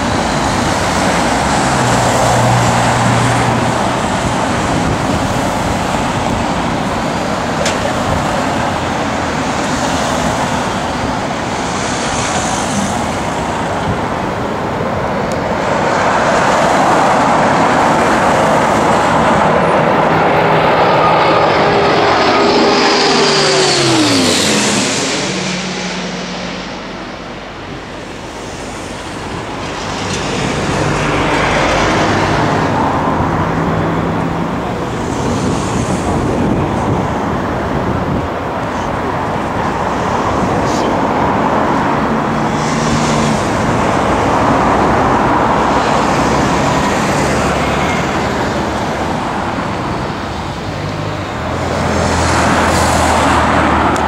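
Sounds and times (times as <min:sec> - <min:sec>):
turboprop aircraft droning: 0:00.0 - 0:54.0.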